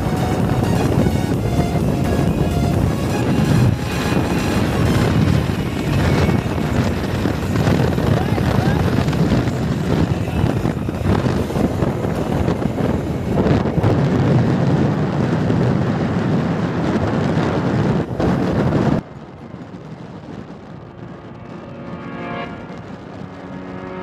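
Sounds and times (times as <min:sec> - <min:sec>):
scooter engine and road noise: 0:00.0 - 0:24.0
steady hum: 0:00.0 - 0:24.0
wind buffeting microphone: 0:00.0 - 0:24.0.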